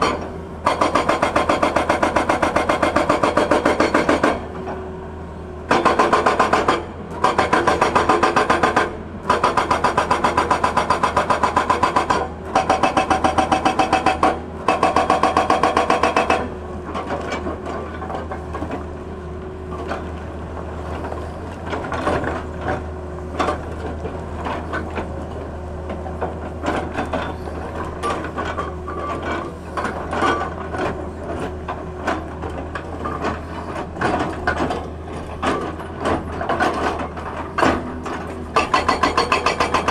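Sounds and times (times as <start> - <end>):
hydraulic rock breaker hammering: 0.0 - 4.8, 5.7 - 18.8, 20.8 - 39.9
excavator diesel engine running: 0.0 - 39.9.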